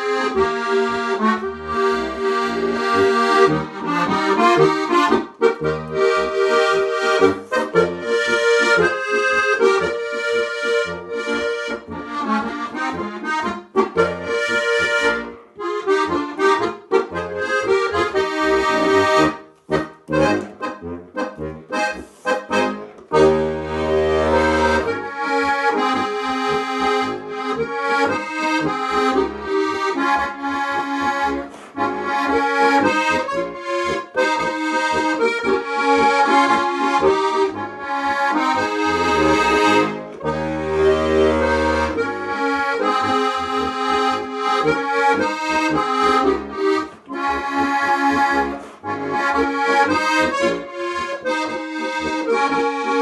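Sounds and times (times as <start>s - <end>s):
solo accordion polka: 0.0s - 53.0s.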